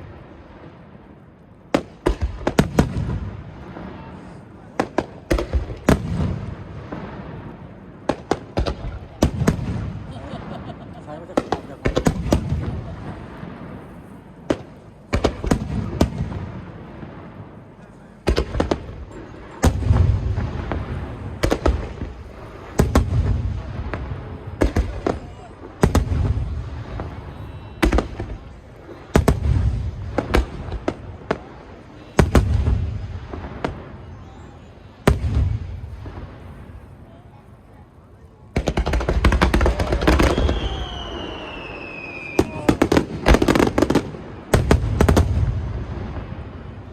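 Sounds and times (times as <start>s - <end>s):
fireworks rumble and crackle: 0.0s - 46.9s.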